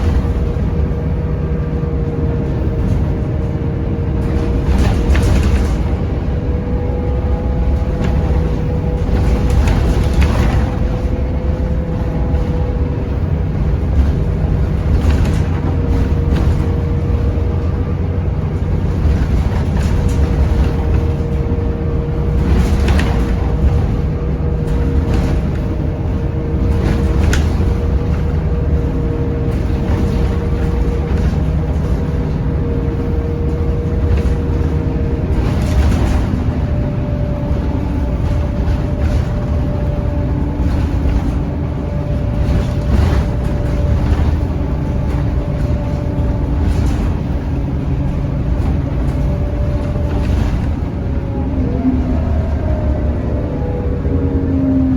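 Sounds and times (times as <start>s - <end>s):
bus diesel engine rumble: 0.0s - 54.9s.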